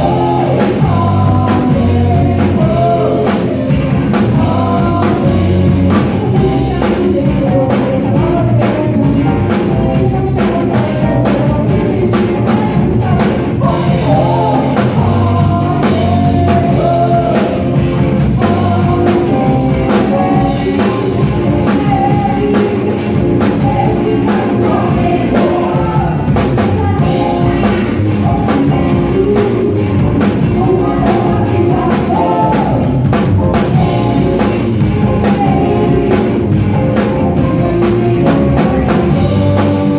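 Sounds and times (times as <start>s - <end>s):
drum kit: 0.0s - 39.9s
lead singer singing: 0.0s - 39.9s
live rock band playing: 0.0s - 39.9s.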